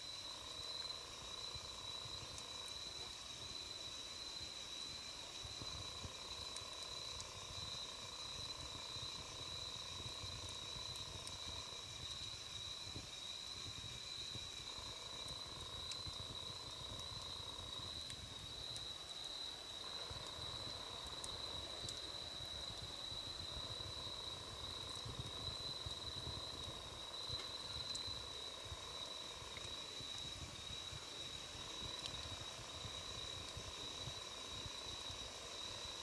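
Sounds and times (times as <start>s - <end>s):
campfire burning: 0.0s - 36.0s
insect trill: 0.0s - 36.0s
faint fire pops: 5.5s - 34.7s.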